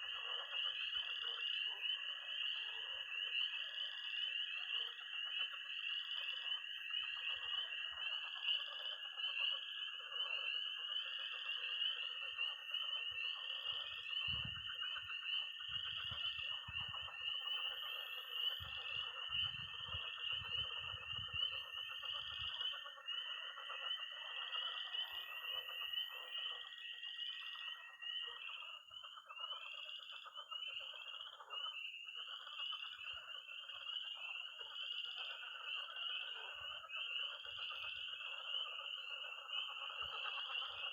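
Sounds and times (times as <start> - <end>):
frogs croaking: 0.0 - 40.9
toads trilling: 0.0 - 40.9
tree frogs peeping: 0.0 - 40.9.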